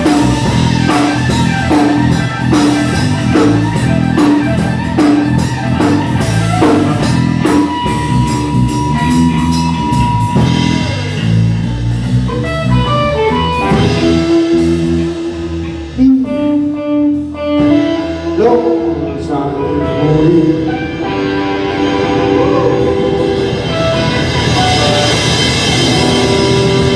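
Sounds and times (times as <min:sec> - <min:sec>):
bass guitar: 0:00.0 - 0:26.9
drum kit: 0:00.0 - 0:26.9
electric guitar: 0:00.0 - 0:26.9.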